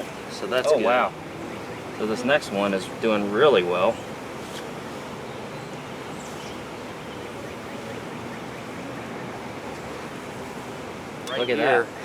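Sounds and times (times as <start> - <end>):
honeybees humming: 0.0 - 12.0.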